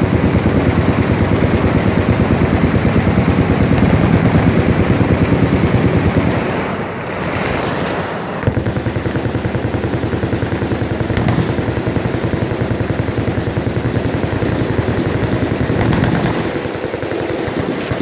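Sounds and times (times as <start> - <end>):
machine guns firing full-auto: 0.0 - 18.0.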